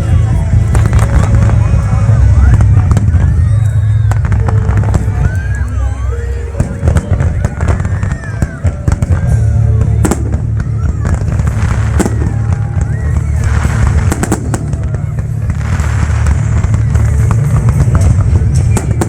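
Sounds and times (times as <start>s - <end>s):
crowd chatter: 0.0s - 19.0s
fireworks bangs and crackles: 0.0s - 19.0s
loud music with heavy bass: 0.0s - 19.0s.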